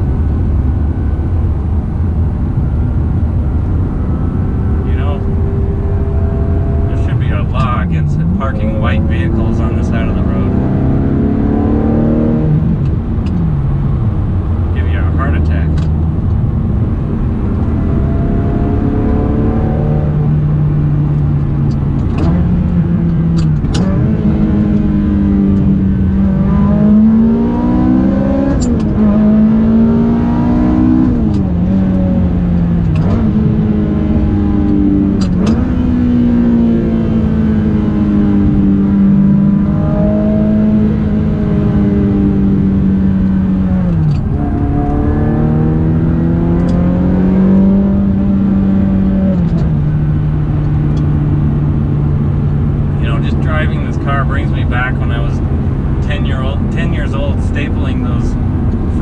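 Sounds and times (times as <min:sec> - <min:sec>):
car engine revving through upshifts: 0:00.1 - 0:59.0.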